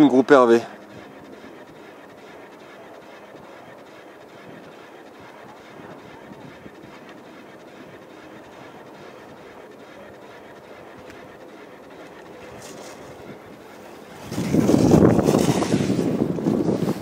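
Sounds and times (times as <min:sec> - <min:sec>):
skier carving on snow: 0:00.0 - 0:17.0
wind buffeting microphone: 0:00.0 - 0:17.0.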